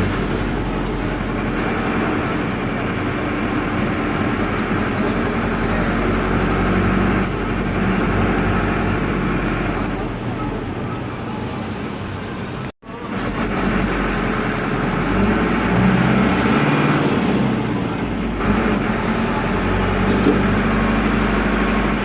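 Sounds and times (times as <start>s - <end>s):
diesel minibus engine running: 0.0s - 22.0s.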